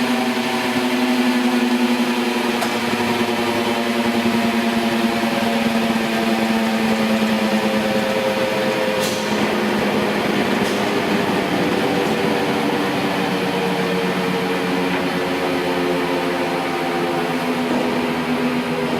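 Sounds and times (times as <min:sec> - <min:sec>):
surface grinder humming: 0:00.0 - 0:18.9.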